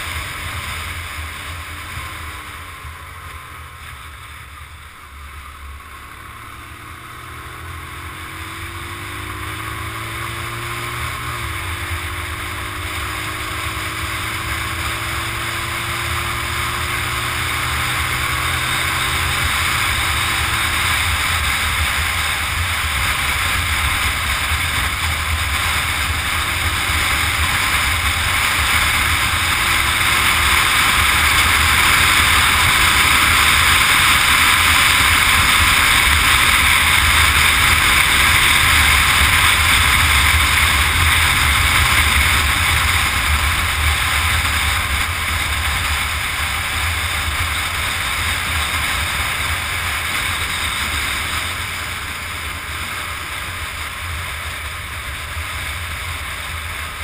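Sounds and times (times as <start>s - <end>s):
motorcycle engine rumble: 0.0s - 57.0s.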